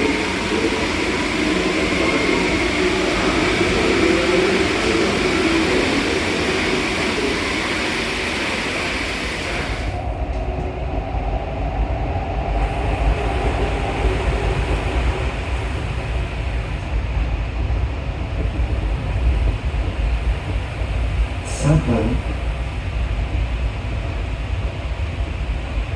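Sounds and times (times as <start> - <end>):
metro train rumbling in tunnel: 0.0 - 25.9.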